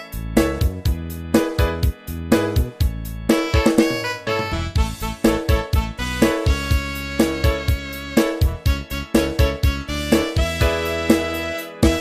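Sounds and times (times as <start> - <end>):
keyboard melody: 0.0 - 12.0.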